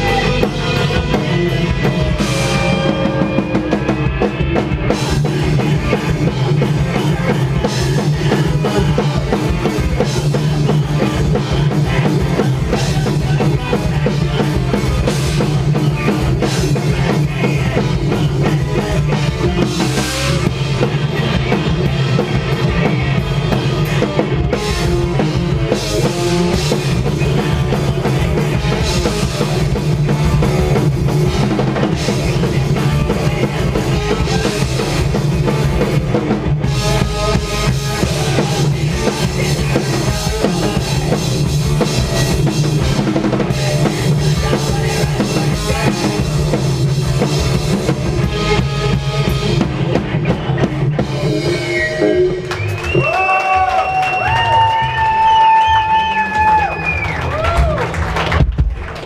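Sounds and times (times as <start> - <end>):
bass drum and snare: 0.0 - 51.5, 57.3 - 59.0
rock band playing live: 0.0 - 59.0.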